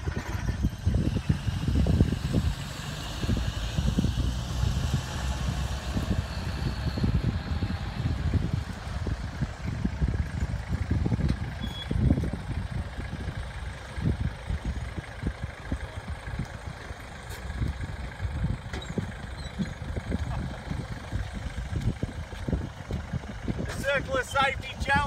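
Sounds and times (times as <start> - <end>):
baggage tug engines running: 0.0 - 25.0
low rumble: 0.0 - 25.0.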